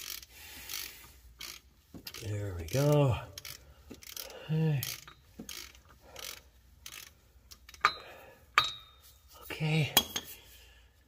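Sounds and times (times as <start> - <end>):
ratchet wrench clicking: 0.0 - 8.9.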